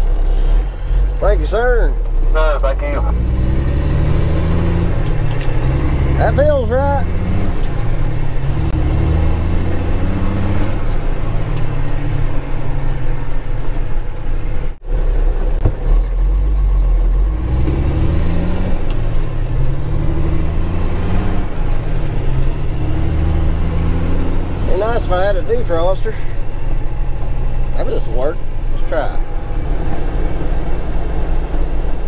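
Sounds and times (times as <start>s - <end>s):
truck diesel engine accelerating: 0.0s - 32.0s.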